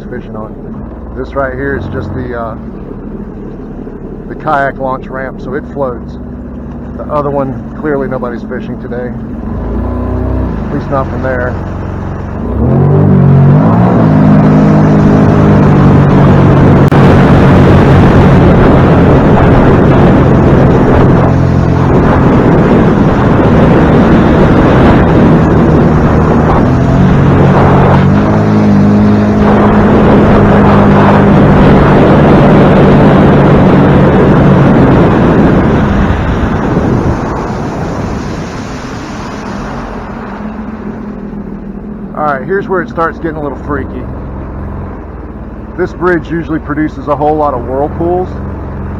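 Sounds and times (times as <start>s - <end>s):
boat engine running hard: 0.0s - 48.9s
rushing water: 0.0s - 48.9s.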